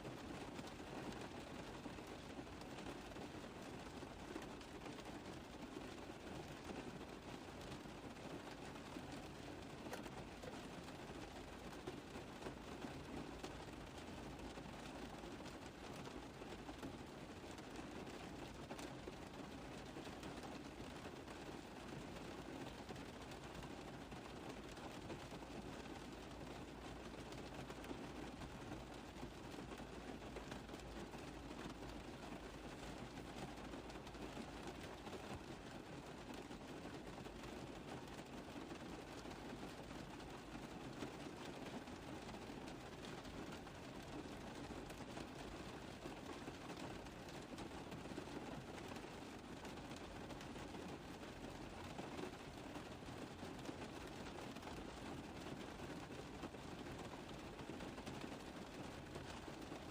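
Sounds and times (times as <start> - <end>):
rain on a car roof: 0.0 - 59.9.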